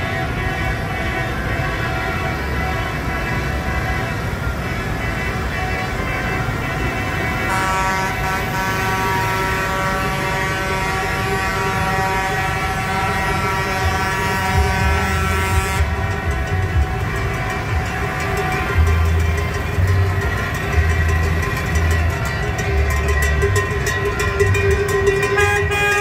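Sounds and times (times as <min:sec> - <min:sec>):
horn blaring: 0:00.0 - 0:26.0
tractor engines running: 0:00.0 - 0:26.0.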